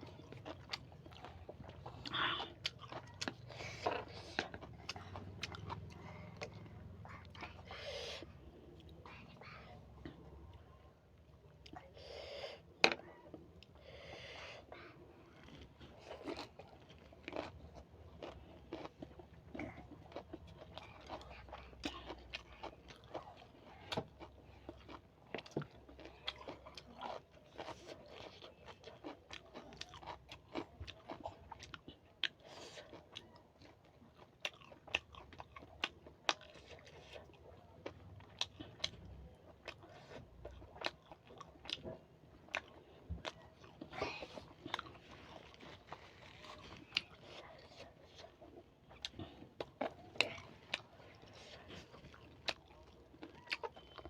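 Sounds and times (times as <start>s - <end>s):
crunching and chewing: 0.0s - 12.0s, 12.6s - 54.0s.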